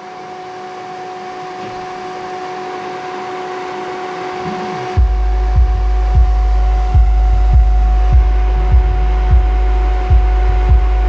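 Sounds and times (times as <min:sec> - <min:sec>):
two-tone hum: 0:00.0 - 0:11.0.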